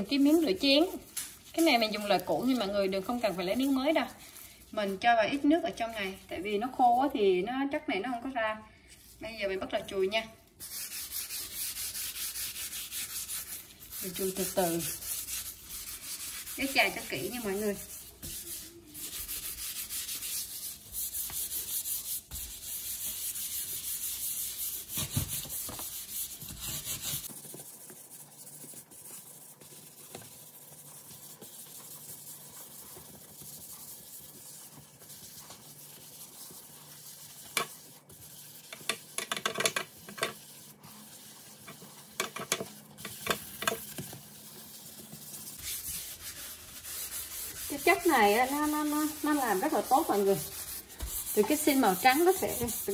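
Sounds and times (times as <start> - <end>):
sponge scrubbing sink: 0.0 - 52.9.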